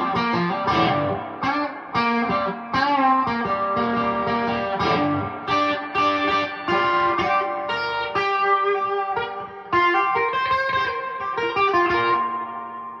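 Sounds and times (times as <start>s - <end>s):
electric guitar with reverb: 0.0s - 13.0s.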